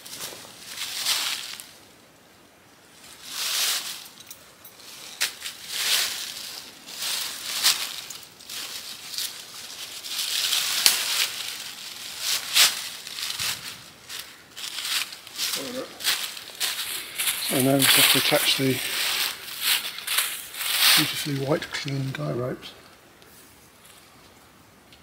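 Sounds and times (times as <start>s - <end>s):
footsteps crunching dry leaves: 0.0s - 1.8s, 2.9s - 4.2s, 4.8s - 22.3s
tent fabric rustling: 0.0s - 1.8s, 3.0s - 22.0s.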